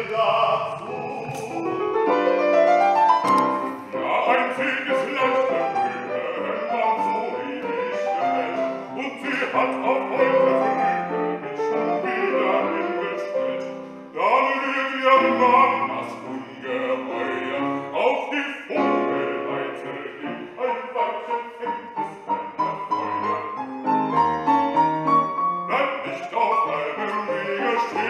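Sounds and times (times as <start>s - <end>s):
man singing operatically: 0.0s - 2.5s, 3.9s - 23.6s, 25.6s - 28.0s
piano accompaniment: 0.0s - 28.0s.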